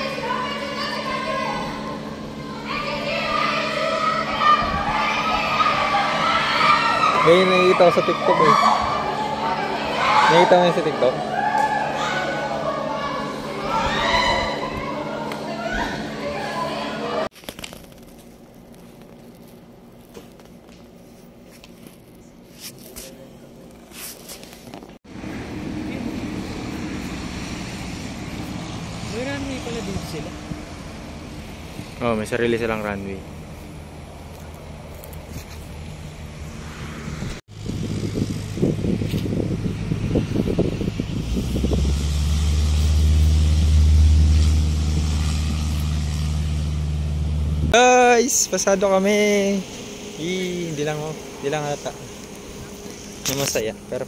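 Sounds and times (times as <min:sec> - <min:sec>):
propeller plane engine drone: 0:00.0 - 0:17.3, 0:25.1 - 0:54.0.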